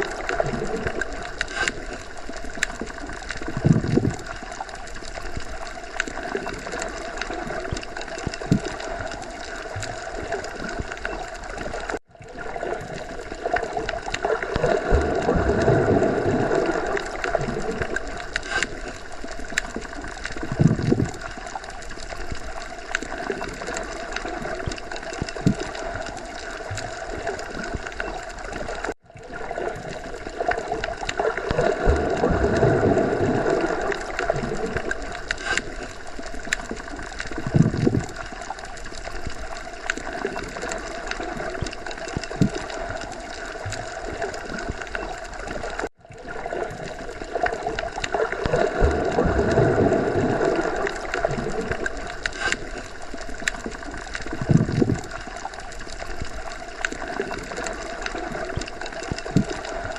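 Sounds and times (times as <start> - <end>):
underwater gurgling rush: 0.0 - 59.9.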